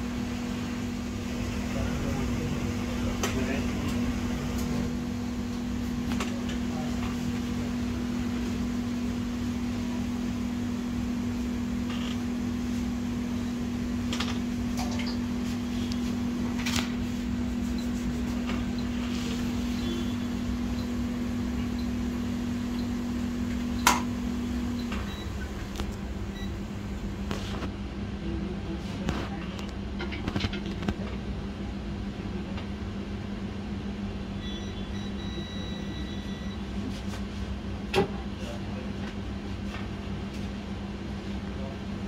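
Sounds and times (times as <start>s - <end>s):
low motor hum: 0.0s - 39.7s.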